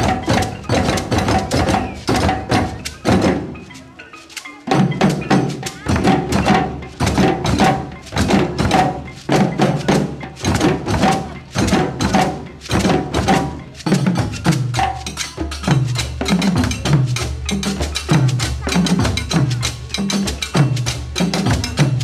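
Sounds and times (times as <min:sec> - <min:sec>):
bass drums played with sticks: 0:00.0 - 0:03.8, 0:04.6 - 0:22.0
hand drums: 0:00.0 - 0:22.0.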